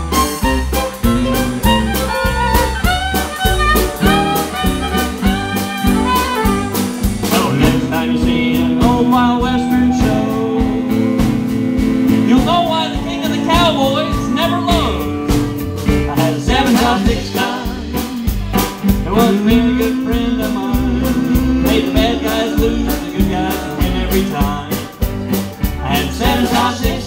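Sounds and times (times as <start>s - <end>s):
country band fiddle guitar and drums: 0.0s - 27.0s.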